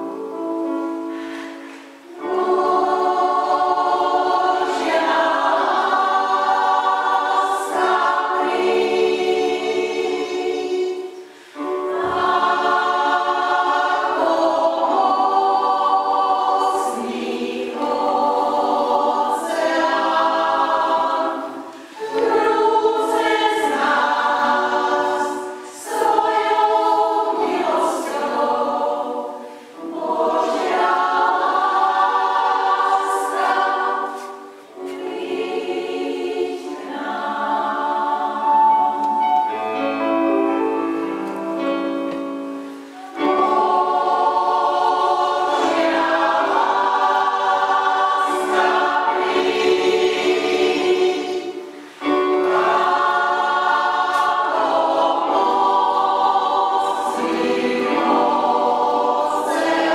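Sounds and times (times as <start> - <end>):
choir singing in a church: 0.0 - 59.9.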